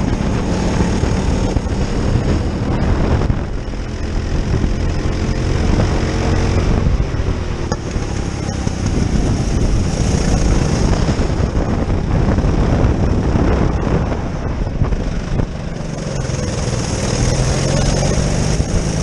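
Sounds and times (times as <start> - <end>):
go-kart engine racing: 0.0 - 19.0.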